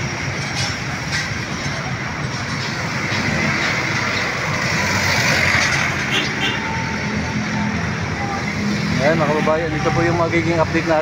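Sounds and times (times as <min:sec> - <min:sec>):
street traffic: 0:00.0 - 0:11.0
train rumbling overhead: 0:00.0 - 0:11.0.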